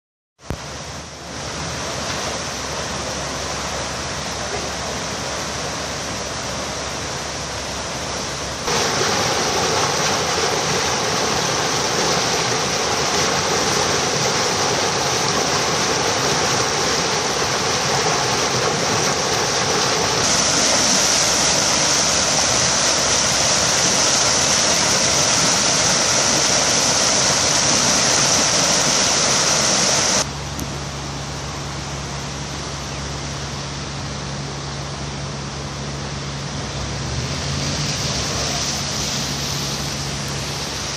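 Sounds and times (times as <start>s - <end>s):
floodwater gushing from storm drain: 0.5s - 30.3s, 33.0s - 40.9s.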